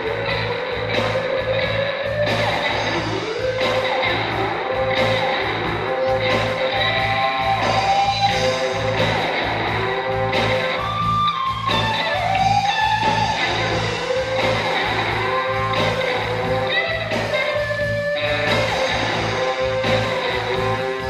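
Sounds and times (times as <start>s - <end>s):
bass: 0.0s - 21.0s
lead guitar bending notes: 0.0s - 21.0s
steady drum beat: 0.0s - 21.0s.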